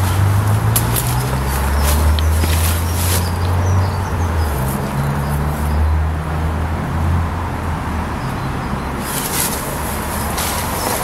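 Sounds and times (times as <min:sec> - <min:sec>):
low rumble of road traffic: 0:00.0 - 0:11.0
passing vehicle engine drone: 0:00.0 - 0:11.0.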